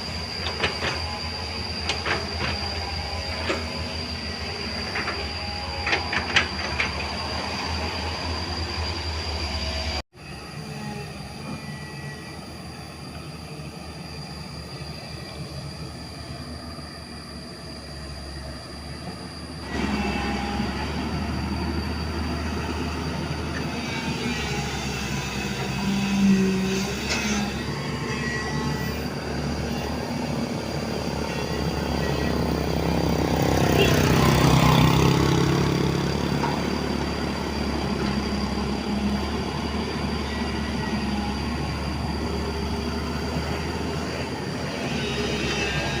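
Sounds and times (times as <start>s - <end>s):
excavator engine and hydraulics: 0.0s - 46.0s.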